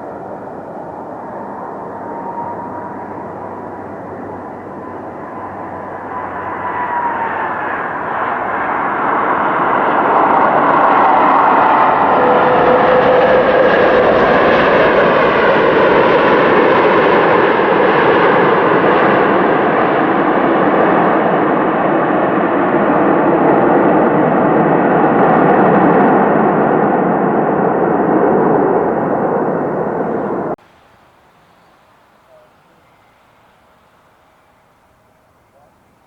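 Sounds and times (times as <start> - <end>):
jet engines roaring with whine: 0.0 - 30.6.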